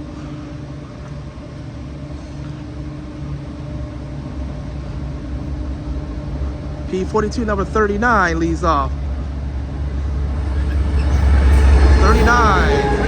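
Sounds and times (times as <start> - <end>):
diesel locomotive engine rumbling: 0.0 - 13.0
steady hum: 0.0 - 13.0.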